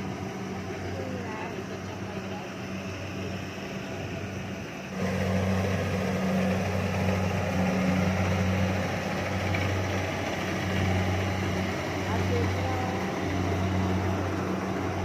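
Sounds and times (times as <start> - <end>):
harvester machinery running: 0.0 - 15.0.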